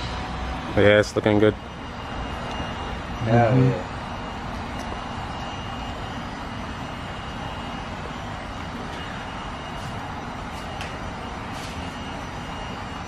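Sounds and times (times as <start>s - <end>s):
motor drone with high whine: 0.0s - 13.0s.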